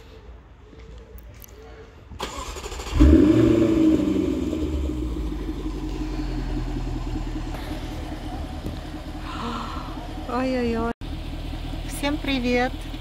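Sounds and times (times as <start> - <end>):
car engine starting and revving: 2.2 - 13.0.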